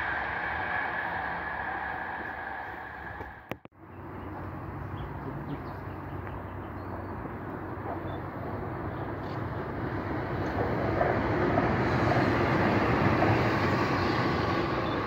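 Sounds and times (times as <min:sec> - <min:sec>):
train wheels rumbling on rails: 0:00.0 - 0:03.6, 0:04.2 - 0:15.0.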